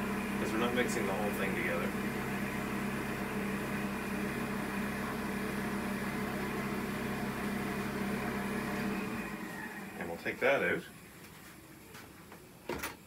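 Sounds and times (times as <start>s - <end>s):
mixer machine humming: 0.0s - 11.2s.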